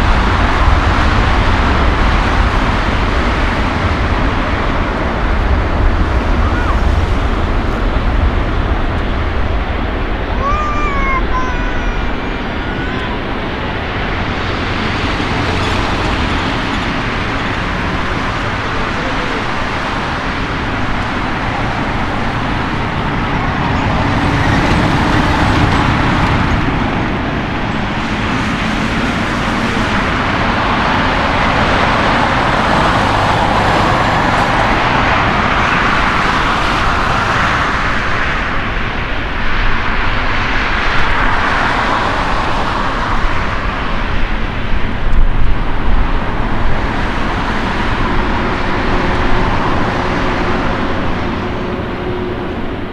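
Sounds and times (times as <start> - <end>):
jet engine roar: 0.0 - 52.9.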